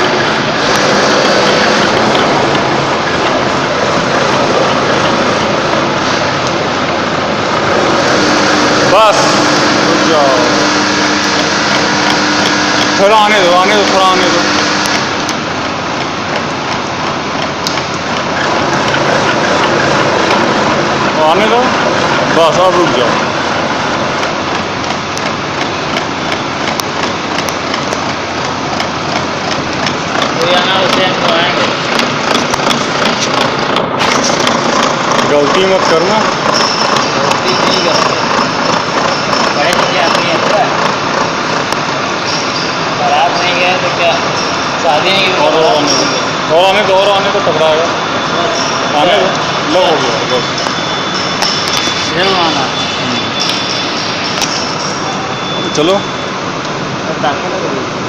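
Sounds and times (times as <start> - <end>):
heavy machinery drone and hiss: 0.0 - 58.0.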